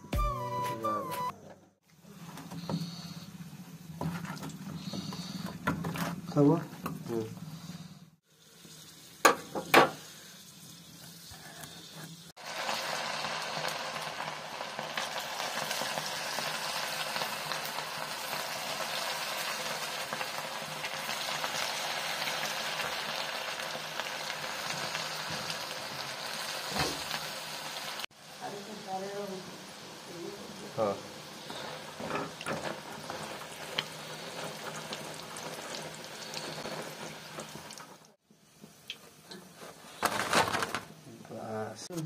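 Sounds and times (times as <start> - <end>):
oil sizzling deep-frying: 1.9 - 42.0.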